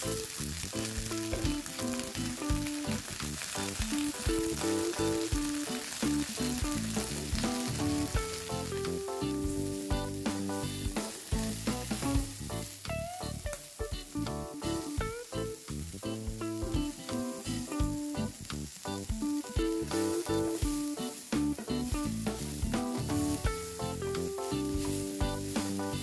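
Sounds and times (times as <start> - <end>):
background music: 0.0 - 26.0
beans sizzling in oil: 0.0 - 26.0.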